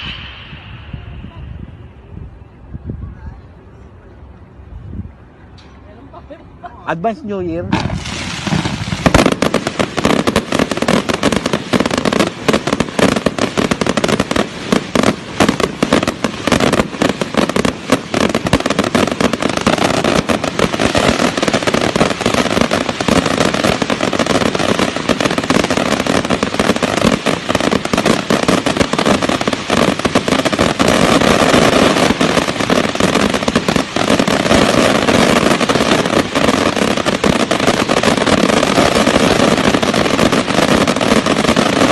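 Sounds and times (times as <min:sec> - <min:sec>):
fireworks bangs and crackling: 0:00.0 - 0:03.3, 0:07.0 - 0:41.9.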